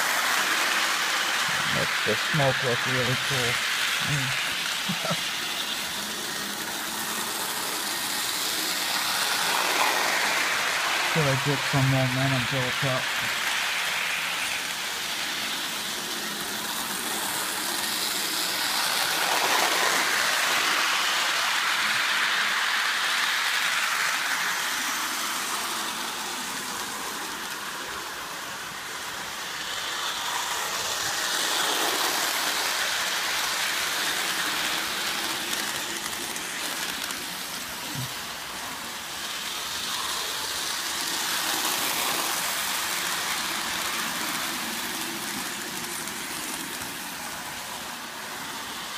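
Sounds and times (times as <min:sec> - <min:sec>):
model train rumbling on track: 0:00.0 - 0:48.9.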